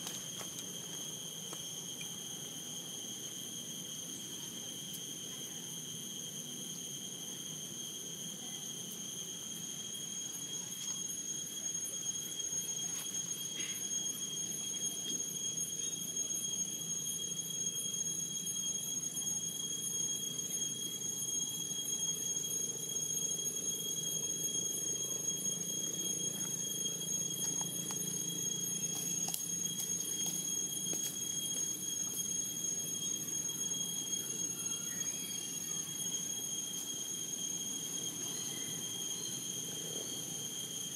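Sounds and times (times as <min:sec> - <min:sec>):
insects calling high-pitched: 0:00.0 - 0:40.9.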